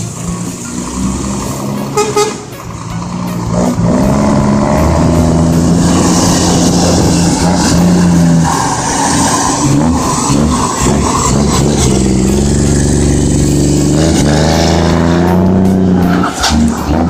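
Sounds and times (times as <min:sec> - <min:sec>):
truck diesel engine pulling hard: 0:00.0 - 0:17.0.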